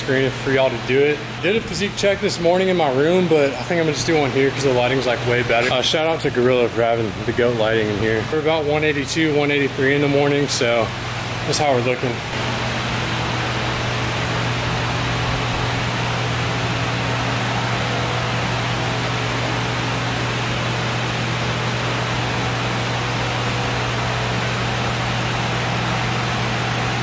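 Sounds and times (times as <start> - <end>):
fan air whoosh: 0.0 - 27.0
low motor hum: 0.0 - 27.0.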